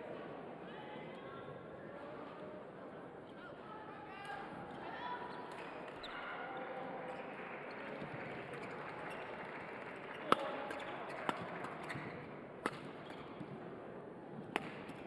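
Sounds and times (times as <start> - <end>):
sports hall background noise: 0.0 - 15.0.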